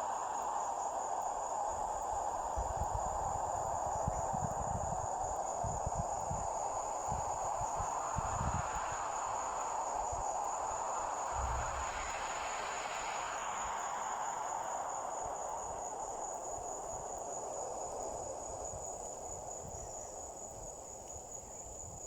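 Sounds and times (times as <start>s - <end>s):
crickets trilling: 0.0s - 22.0s
even hiss: 0.0s - 22.0s.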